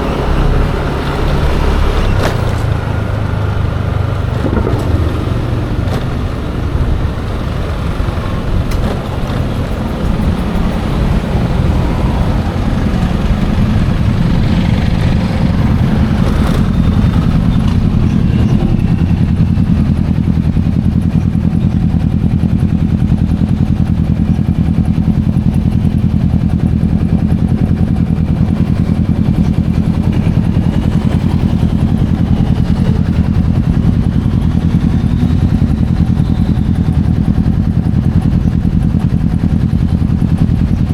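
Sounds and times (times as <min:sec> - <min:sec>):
road noise: 0:00.0 - 0:40.9
scooter engine running: 0:00.0 - 0:40.9.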